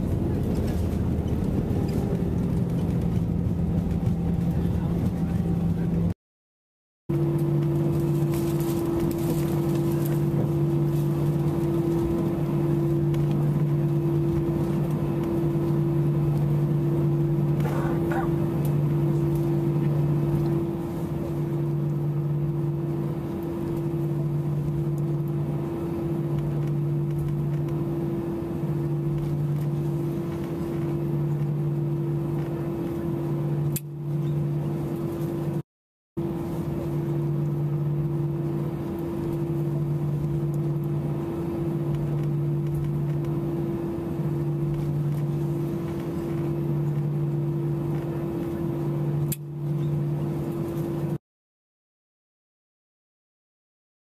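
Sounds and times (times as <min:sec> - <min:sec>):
aircraft cabin engine hum: 0:00.0 - 0:06.2, 0:07.1 - 0:35.6, 0:36.2 - 0:51.2.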